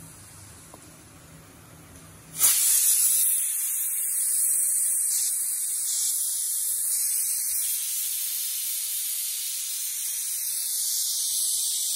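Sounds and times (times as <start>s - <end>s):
pressure cooker steam hissing: 2.3s - 11.9s.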